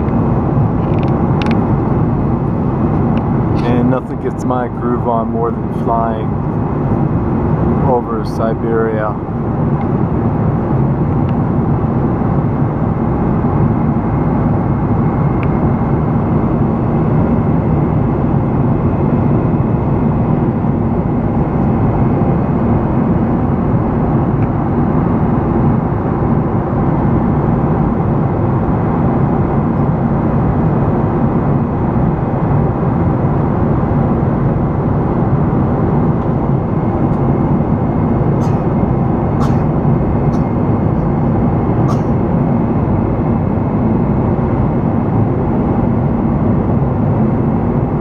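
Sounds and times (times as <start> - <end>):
airliner cabin engine hiss: 0.1 - 47.9.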